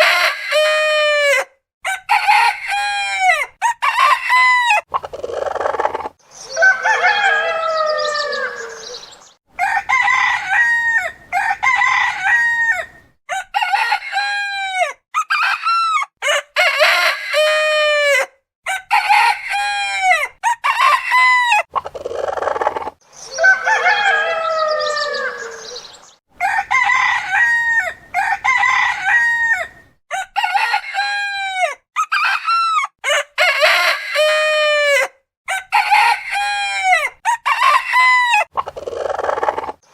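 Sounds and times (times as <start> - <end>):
roosters crowing: 0.0 - 21.7, 22.3 - 39.8.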